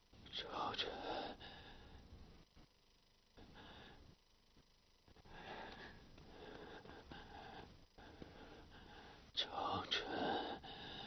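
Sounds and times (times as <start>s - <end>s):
faint breaths: 0.4s - 2.5s, 3.4s - 4.3s, 5.1s - 11.0s.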